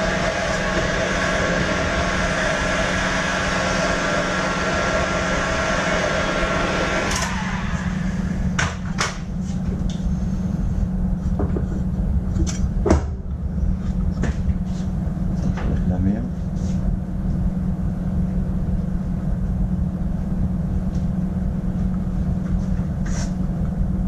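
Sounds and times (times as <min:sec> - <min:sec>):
low steady hum: 0:00.0 - 0:24.0
workshop machine whining: 0:00.0 - 0:24.0.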